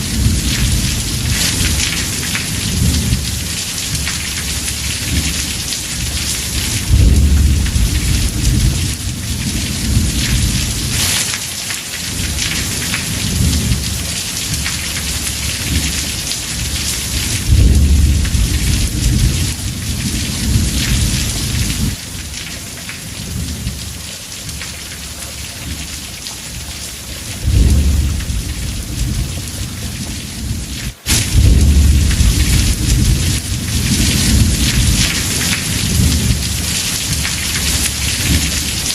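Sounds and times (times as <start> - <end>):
rolling thunder: 0.0 - 11.4, 12.0 - 22.0, 27.2 - 38.9
heavy rain drumming on roof: 0.0 - 38.9.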